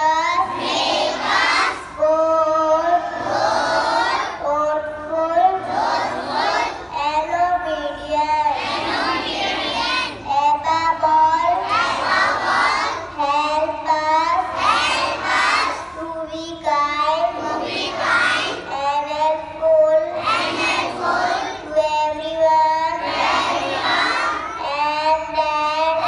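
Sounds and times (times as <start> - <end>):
children chanting in unison: 0.0 - 26.0.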